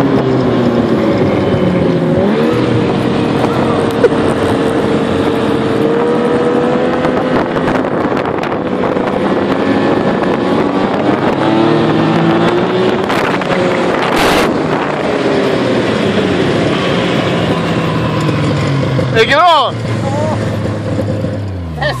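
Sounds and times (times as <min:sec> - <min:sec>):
wind buffeting microphone: 0:00.0 - 0:19.2
snowmobile engine running: 0:00.0 - 0:22.0.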